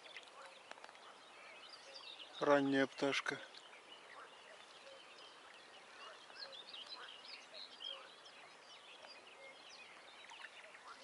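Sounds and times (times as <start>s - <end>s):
low outdoor hiss: 0.0s - 11.0s
songbirds chirping and whistling: 0.0s - 11.0s.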